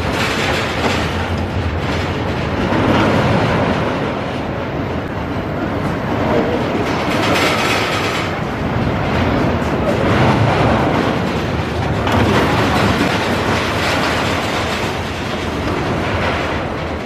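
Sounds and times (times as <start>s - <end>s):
roller coaster wheels rattling: 0.0s - 17.0s.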